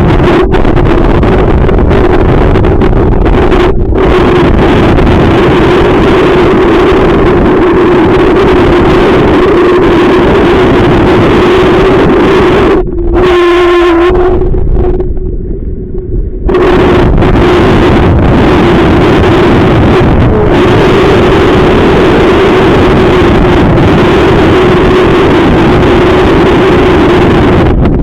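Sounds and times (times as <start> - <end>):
steady hum: 0.0 - 28.0
wind buffeting microphone: 0.0 - 28.0.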